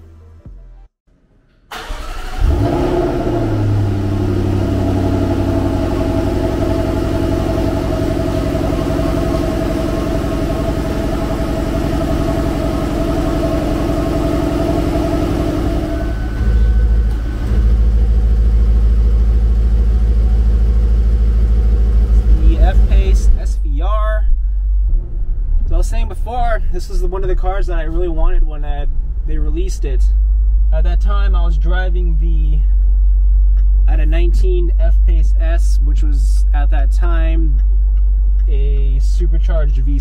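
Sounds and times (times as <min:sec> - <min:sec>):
car engine starting and idling: 0:01.4 - 0:40.0.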